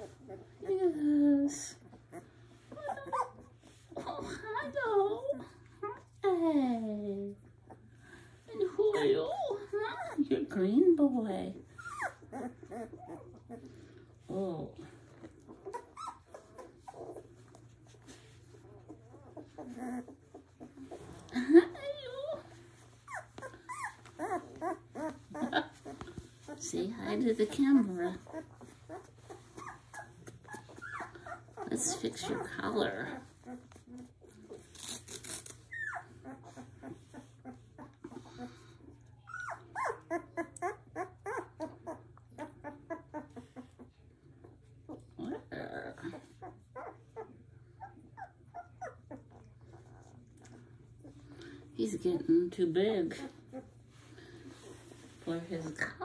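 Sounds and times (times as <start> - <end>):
puppies whimpering and grunting: 0.0 - 56.0.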